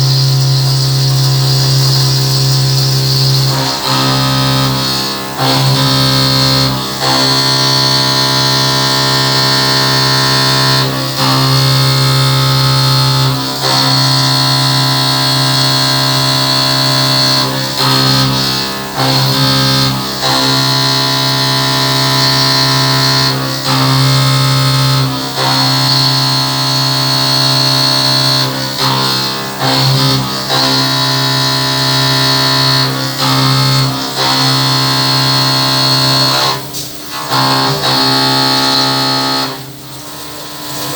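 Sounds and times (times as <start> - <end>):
milling machine whine: 0.0 - 40.9.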